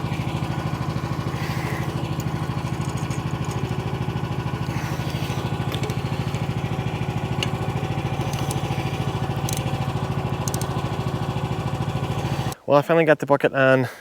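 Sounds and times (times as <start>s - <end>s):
excavator engine idling: 0.0s - 12.6s.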